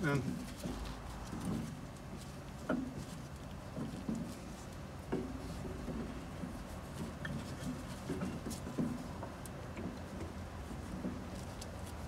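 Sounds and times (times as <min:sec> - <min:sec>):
light knocks and rubbing: 0:00.0 - 0:12.0.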